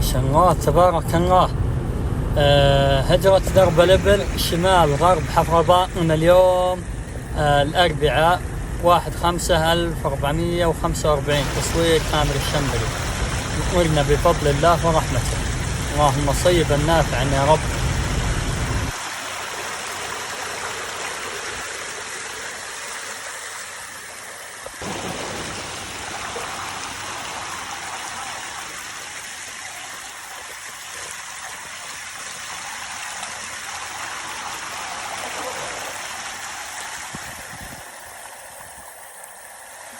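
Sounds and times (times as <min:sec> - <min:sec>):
rainwater flowing: 0:00.0 - 0:39.9.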